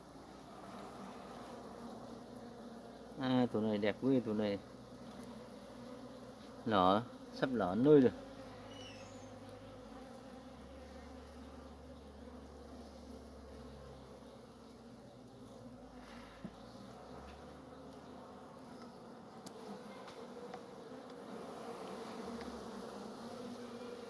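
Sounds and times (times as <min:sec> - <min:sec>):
honeybees humming: 0:00.0 - 0:24.0.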